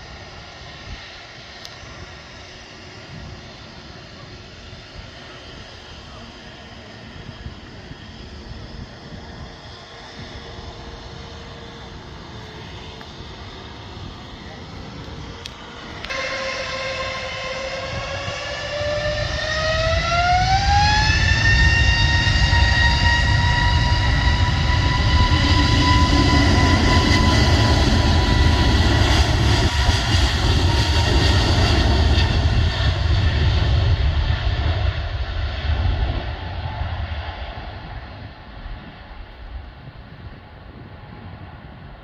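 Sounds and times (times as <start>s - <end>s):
jet engines spooling up: 0.0s - 39.7s.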